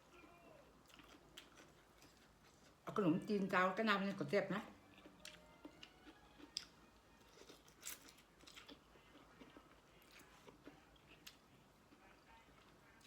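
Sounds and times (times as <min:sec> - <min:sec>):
person chewing: 0:00.2 - 0:02.8, 0:04.9 - 0:13.0.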